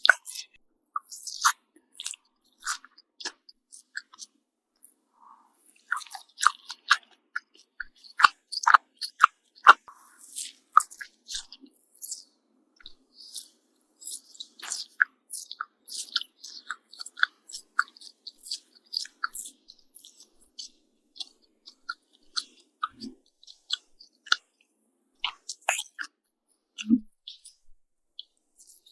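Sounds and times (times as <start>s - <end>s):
close chewing with mouth clicks: 0.0s - 28.9s.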